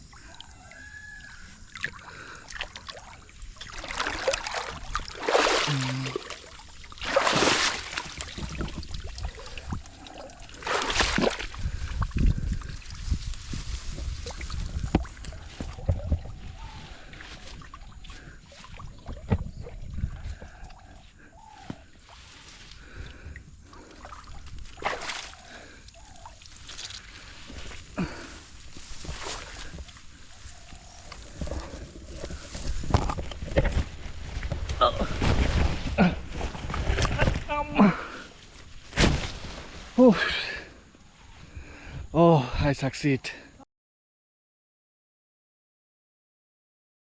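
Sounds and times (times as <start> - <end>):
water splashing and sloshing: 0.0 - 40.0.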